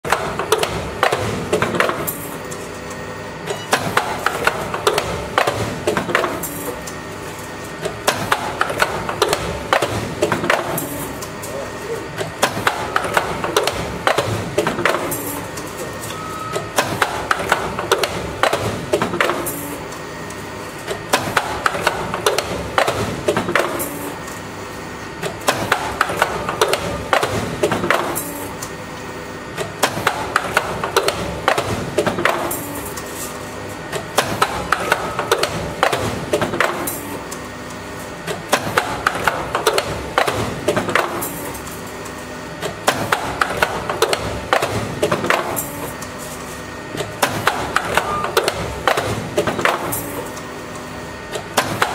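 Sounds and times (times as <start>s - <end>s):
metal clacks and knocks of machine: 0.0s - 20.0s, 20.8s - 24.4s, 25.2s - 28.8s, 29.5s - 51.9s
steady machine hum: 0.0s - 51.9s.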